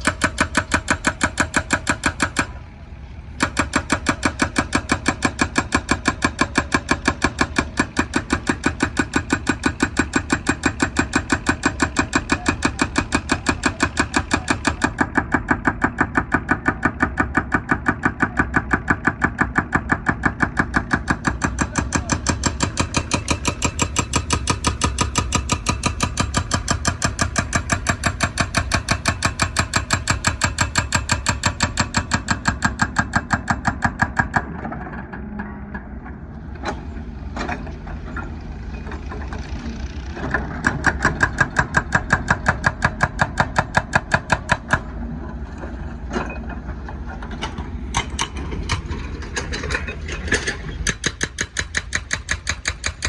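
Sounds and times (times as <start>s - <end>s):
hydraulic breaker pounding asphalt: 0.0s - 2.7s, 3.3s - 53.0s
excavator engine running: 0.0s - 53.0s.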